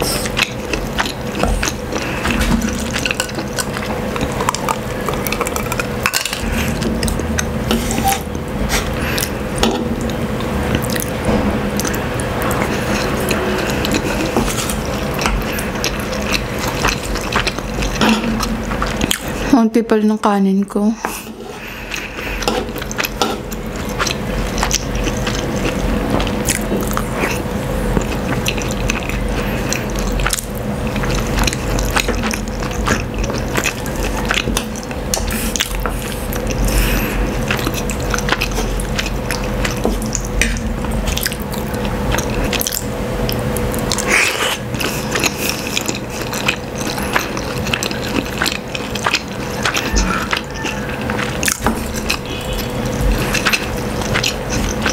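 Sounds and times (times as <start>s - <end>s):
chewing and biting: 0.0s - 19.5s, 21.1s - 54.9s
steady hum: 0.0s - 54.9s.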